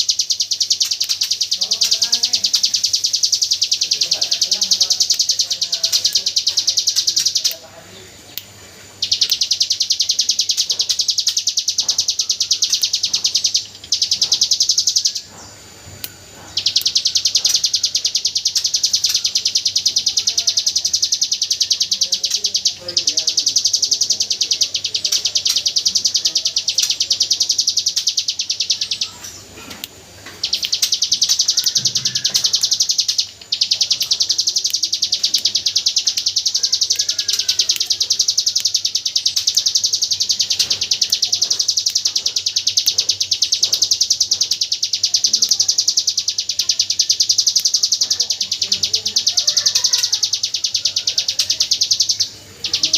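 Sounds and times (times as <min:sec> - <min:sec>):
bird singing fast trills: 0:00.0 - 0:29.5, 0:30.2 - 0:52.9.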